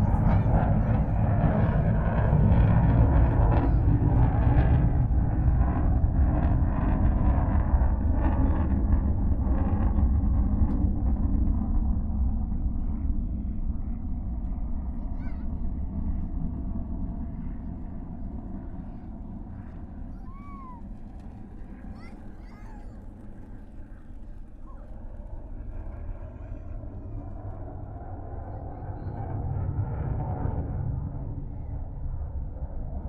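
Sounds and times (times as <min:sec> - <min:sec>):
distant jet engine rumble: 0:00.0 - 0:33.0.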